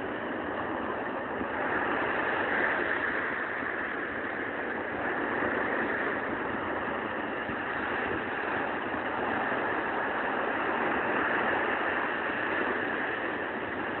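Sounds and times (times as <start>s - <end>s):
waves breaking on shore: 0.0s - 14.0s.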